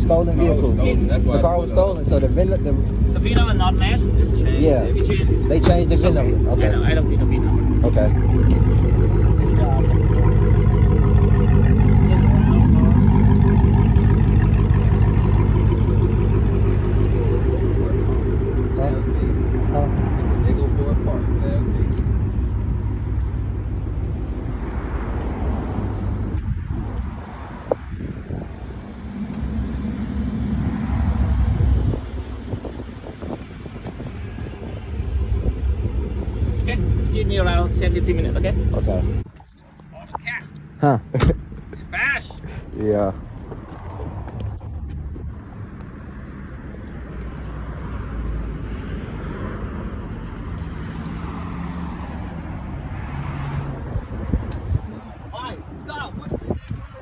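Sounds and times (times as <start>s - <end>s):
low vehicle rumble: 0.0s - 57.0s.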